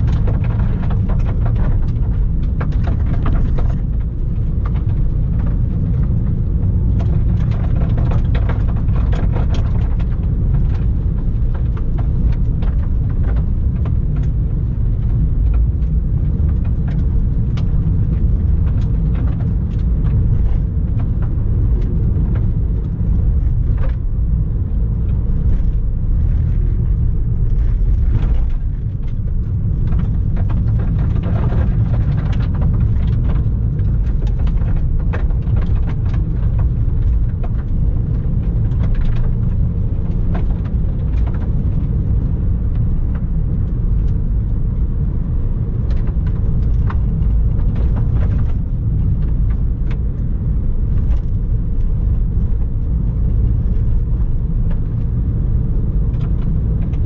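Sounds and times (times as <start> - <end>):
gravel ticks and knocks: 0.0 - 57.0
tyre and road rumble: 0.0 - 57.0.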